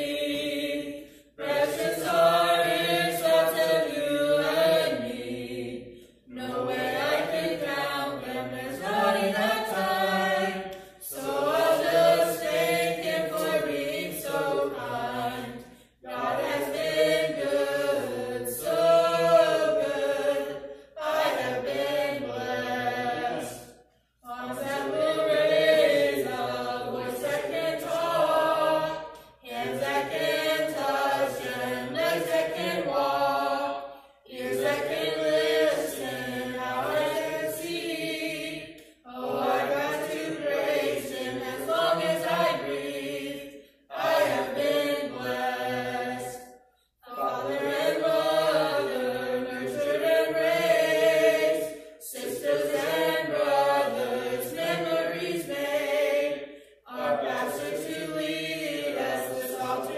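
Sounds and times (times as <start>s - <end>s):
group singing gospel unaccompanied: 0.0s - 59.9s.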